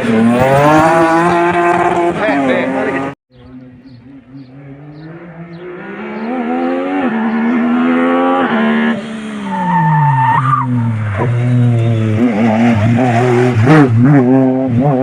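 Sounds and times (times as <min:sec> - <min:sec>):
race car engine revving: 0:00.0 - 0:15.0.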